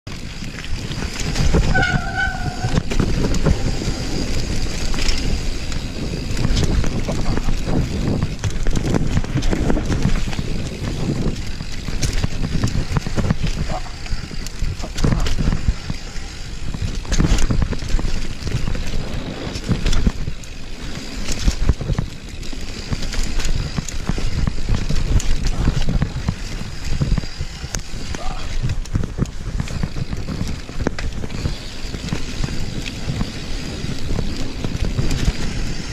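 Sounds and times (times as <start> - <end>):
bike frame and chain rattling: 0.1 - 35.9
tyres rumbling on dirt: 0.1 - 35.9
wind buffeting microphone: 0.1 - 35.9.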